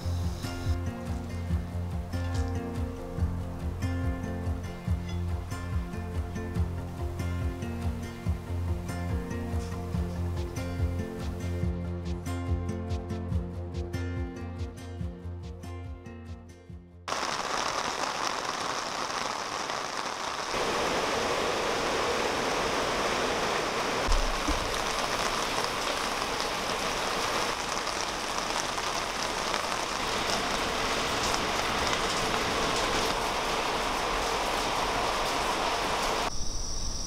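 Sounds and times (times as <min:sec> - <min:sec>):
steady rain falling: 0:00.0 - 0:11.6, 0:17.1 - 0:36.4.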